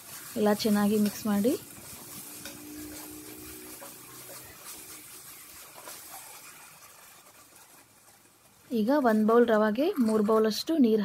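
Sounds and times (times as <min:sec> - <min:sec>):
spatula stirring: 0:00.0 - 0:10.8
vegetables sizzling in a pot: 0:00.0 - 0:11.0.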